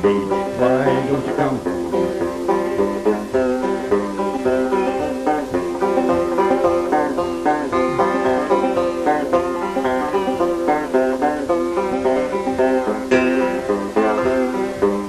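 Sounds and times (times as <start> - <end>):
banjo picking: 0.0 - 15.0.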